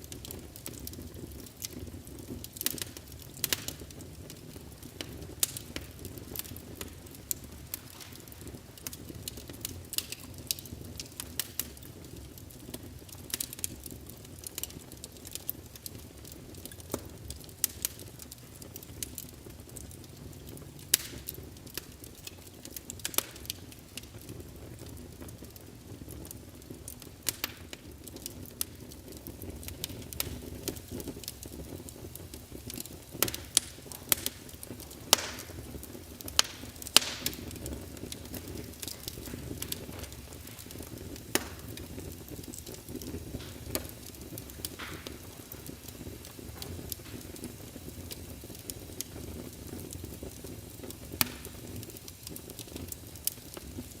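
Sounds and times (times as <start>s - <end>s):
fireplace crackling and popping: 0.0s - 54.0s
low rumble of fire: 0.0s - 54.0s.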